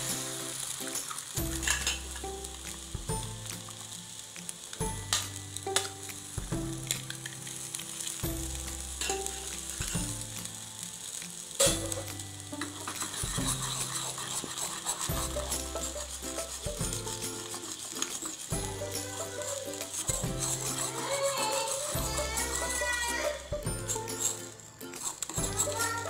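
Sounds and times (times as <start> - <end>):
spatula scraping a pan: 0.0 - 3.9, 4.6 - 26.0
egg sizzling in oil: 0.0 - 26.0.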